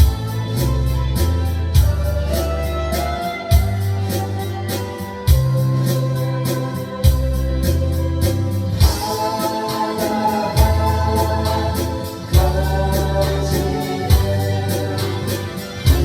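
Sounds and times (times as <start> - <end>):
drum machine beat: 0.0 - 16.0
electronic organ melody: 0.0 - 16.0.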